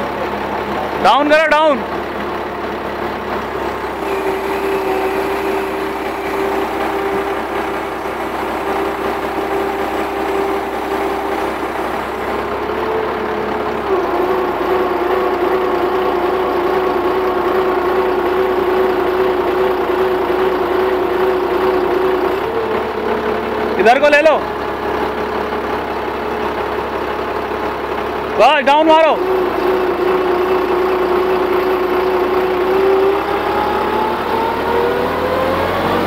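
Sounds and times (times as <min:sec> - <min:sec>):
crane diesel engine running: 0:00.0 - 0:36.0
steady whining tone: 0:00.0 - 0:36.0.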